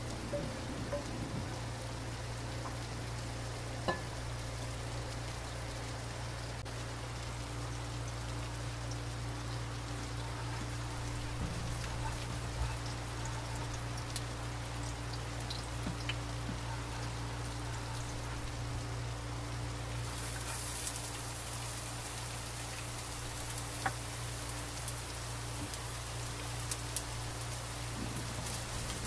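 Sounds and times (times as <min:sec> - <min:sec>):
hot oil sizzling: 0:00.0 - 0:29.0
steady low hum: 0:00.0 - 0:29.0.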